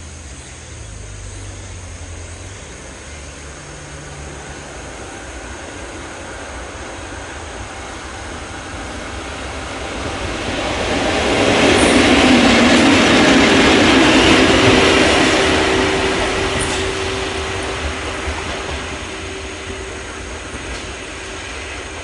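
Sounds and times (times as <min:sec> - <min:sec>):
locomotive passing on rails: 0:00.0 - 0:22.0
steady whine: 0:00.0 - 0:22.0.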